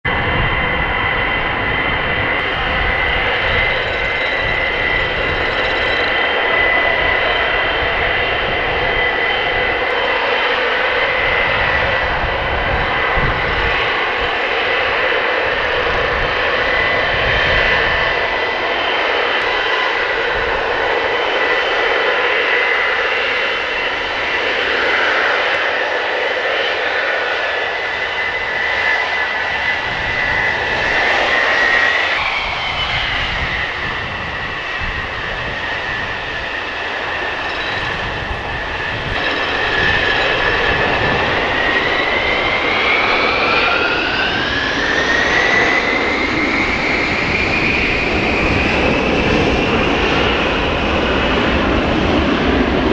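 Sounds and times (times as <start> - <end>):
jet engines rumbling and whining: 0.0 - 52.9.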